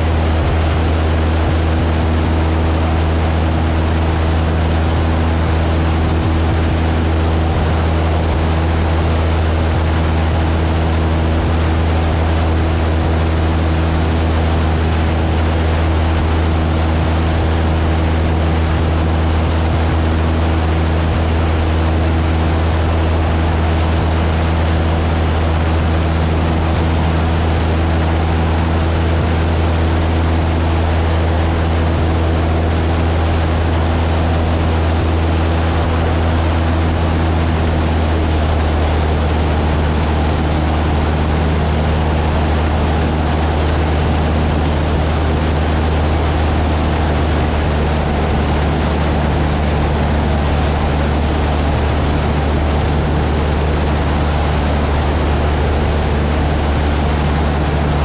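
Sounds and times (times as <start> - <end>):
airplane engine droning in cabin: 0.0 - 58.0.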